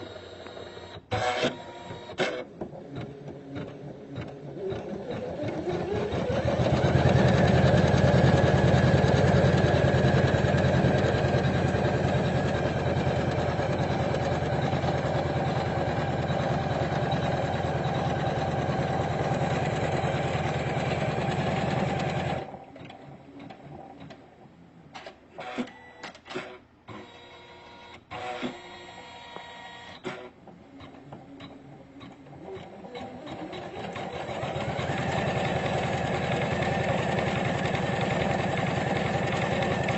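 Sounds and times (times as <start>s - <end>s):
embroidery machine stitching: 0.0s - 24.2s, 30.1s - 39.9s.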